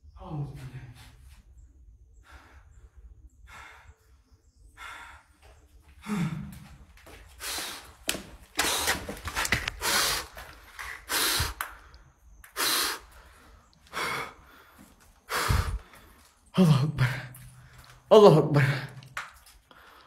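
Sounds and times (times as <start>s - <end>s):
person breathing hard: 2.1s - 18.0s, 19.6s - 20.0s.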